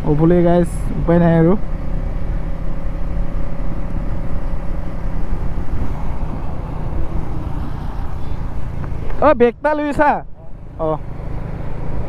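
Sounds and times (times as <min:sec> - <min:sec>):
motorcycle engine hum: 0:00.0 - 0:12.0
road and wind rumble: 0:00.0 - 0:12.0.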